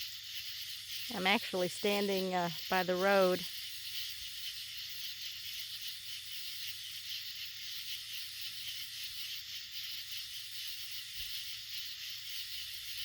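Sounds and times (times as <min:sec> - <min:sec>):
crickets shrilling: 0:00.0 - 0:13.0.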